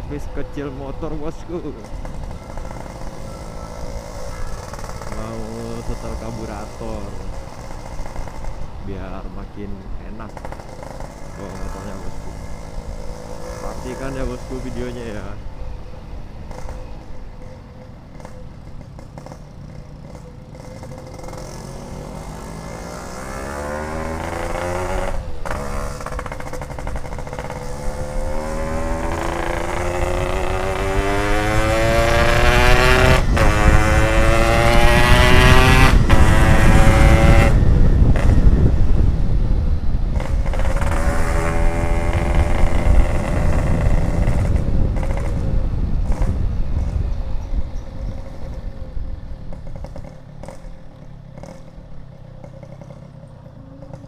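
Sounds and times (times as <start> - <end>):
two-stroke motorcycle accelerating: 0.0 - 54.0.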